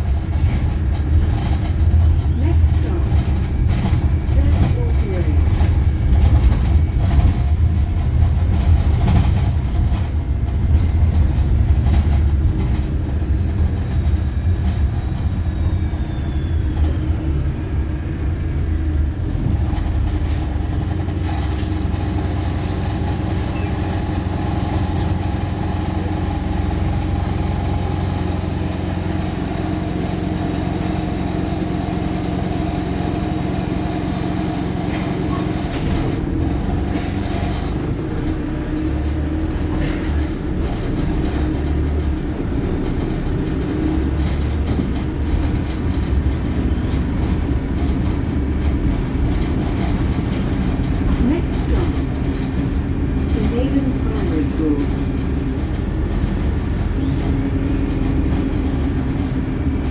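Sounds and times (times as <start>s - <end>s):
bus diesel engine drone: 0.0s - 59.9s
clicks and rattles from bus body: 0.0s - 59.9s.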